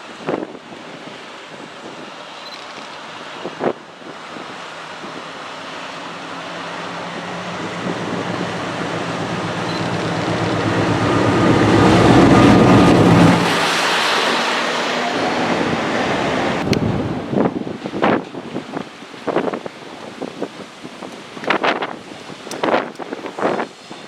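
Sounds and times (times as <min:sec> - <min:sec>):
diesel train engine hum: 0:00.0 - 0:24.0
wheels rumbling on rail: 0:00.0 - 0:24.0.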